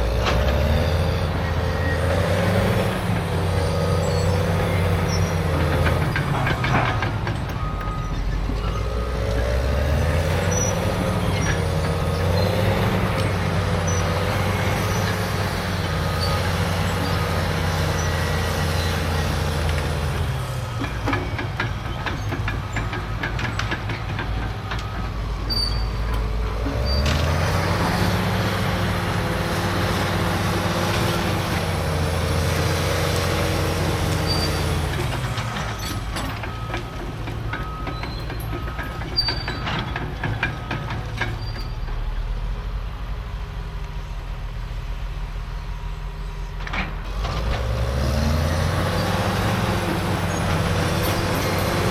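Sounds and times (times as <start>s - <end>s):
metallic clanks and squeaks: 0.0s - 28.5s, 29.2s - 42.4s, 46.3s - 51.9s
diesel engine working under load: 0.0s - 51.9s.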